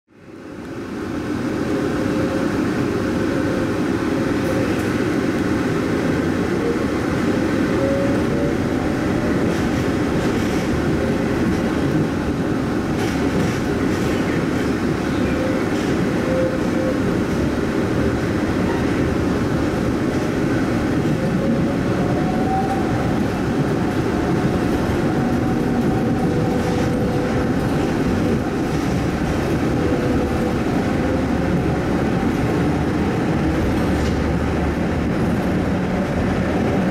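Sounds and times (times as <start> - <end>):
train rumbling on guideway: 0.1 - 36.9.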